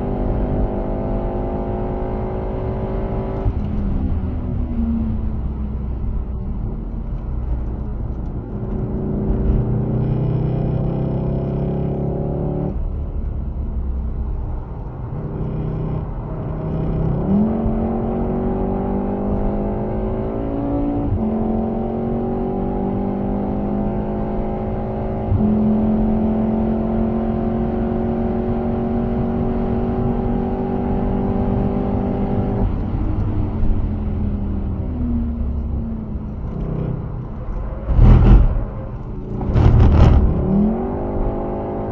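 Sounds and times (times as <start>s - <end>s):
car engine accelerating: 0.0s - 41.9s
road and tyre noise: 0.0s - 41.9s.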